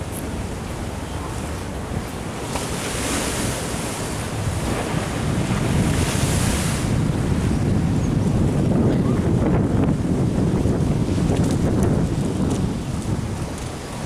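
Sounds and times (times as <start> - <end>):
ocean surf washing in: 0.0 - 14.0
wind buffeting the microphone: 0.0 - 14.0.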